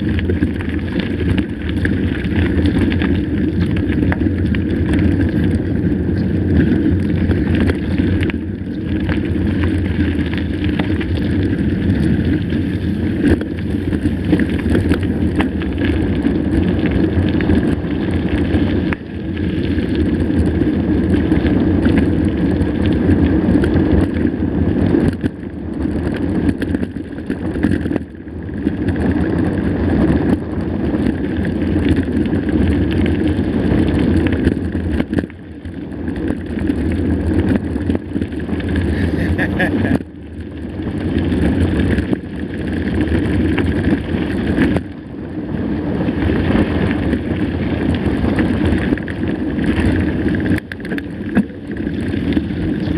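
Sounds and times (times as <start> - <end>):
bike rattling over ground: 0.0 - 52.9
bike tyres rumbling: 0.0 - 52.9
wind buffeting microphone: 0.0 - 52.9.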